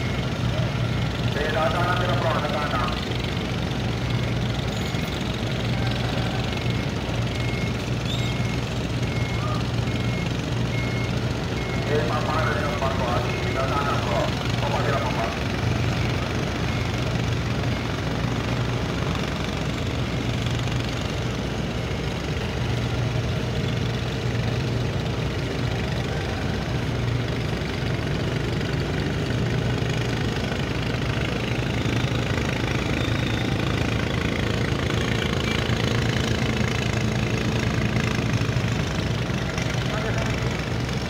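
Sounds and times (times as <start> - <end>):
ship diesel engine humming: 0.0 - 41.0.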